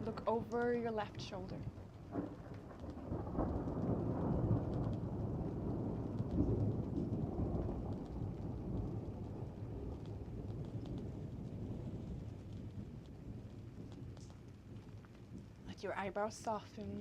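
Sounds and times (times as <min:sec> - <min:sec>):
light steady rain: 0:00.0 - 0:17.0
rolling thunder: 0:00.0 - 0:17.0.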